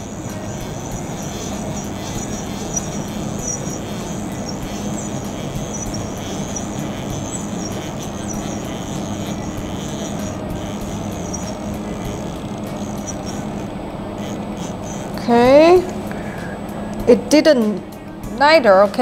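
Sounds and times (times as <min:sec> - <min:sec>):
milling machine hum with whine: 0:00.0 - 0:19.0.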